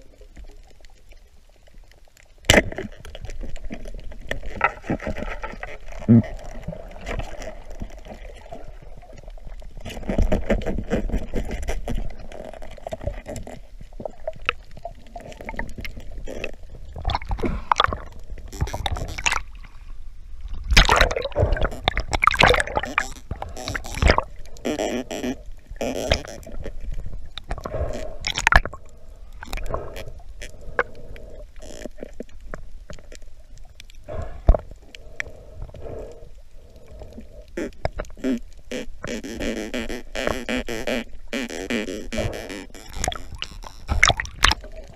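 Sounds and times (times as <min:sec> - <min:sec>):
underwater gurgling and bubbling: 0:00.0 - 0:44.9.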